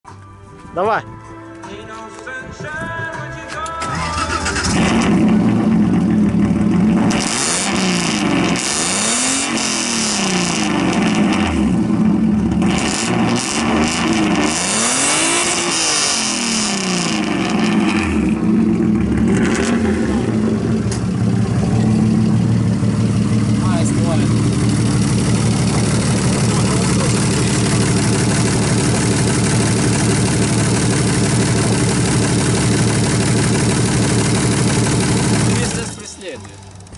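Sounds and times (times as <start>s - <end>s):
car engine revving: 3.9s - 36.9s.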